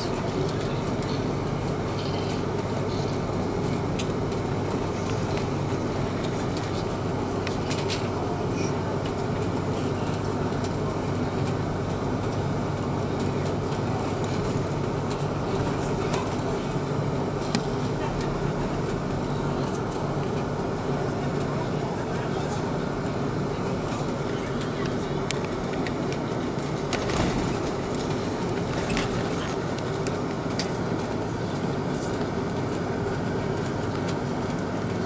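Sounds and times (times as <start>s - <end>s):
aircraft cabin engine drone: 0.0s - 35.0s.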